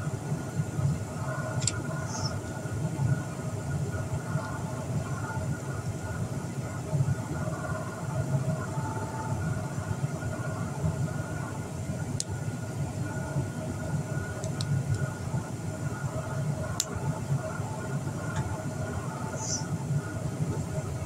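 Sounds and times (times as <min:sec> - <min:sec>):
faint steady tones: 0:00.0 - 0:21.0
low mechanical hum: 0:00.0 - 0:21.0.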